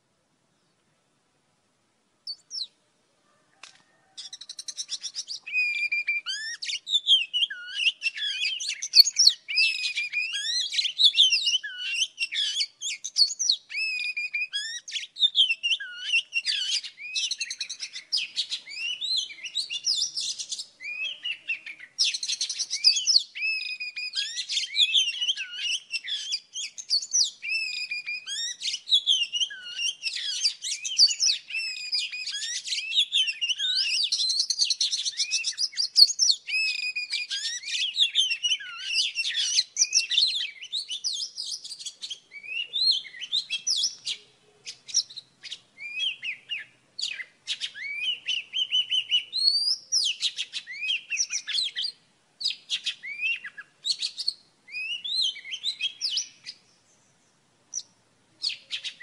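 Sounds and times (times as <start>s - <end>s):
bird singing whistled phrases: 2.3s - 2.7s, 4.0s - 56.6s, 57.7s - 59.0s.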